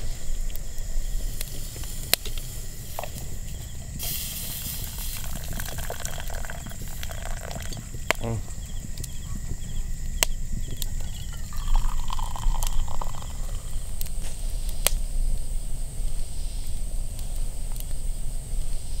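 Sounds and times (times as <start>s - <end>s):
insects chirping: 0.0s - 19.0s
wood fire crackling: 0.0s - 19.0s.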